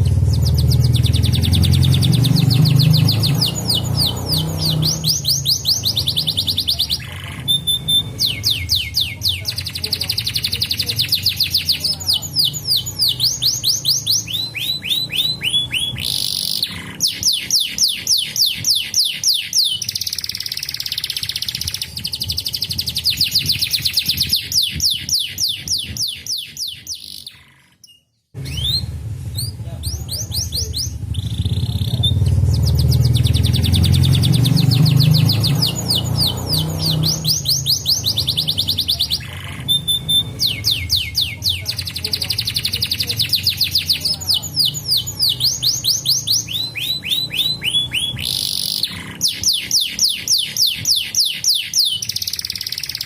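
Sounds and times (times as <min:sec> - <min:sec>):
canaries singing trills: 0:00.0 - 0:53.0.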